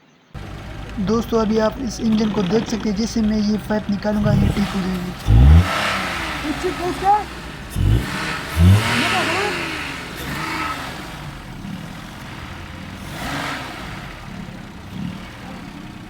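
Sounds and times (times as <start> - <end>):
car engine idling roughly: 0.4 - 16.0.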